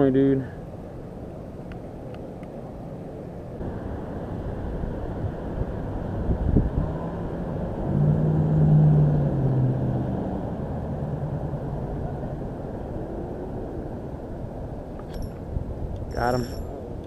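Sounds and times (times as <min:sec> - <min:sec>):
low engine hum: 0:00.6 - 0:17.0
steady low rumble: 0:00.6 - 0:17.0.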